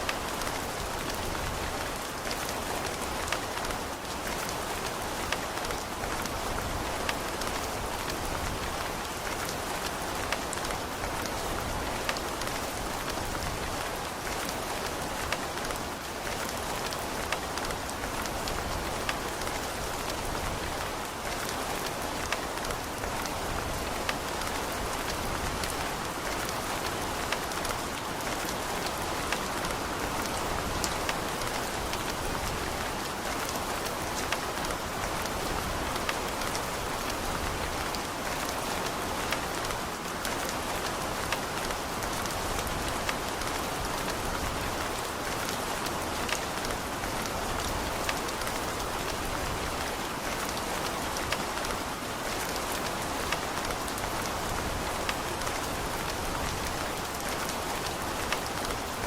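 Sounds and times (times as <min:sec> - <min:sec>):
sharp raindrop ticks: 0:00.0 - 0:59.0
steady rain hiss: 0:00.0 - 0:59.0.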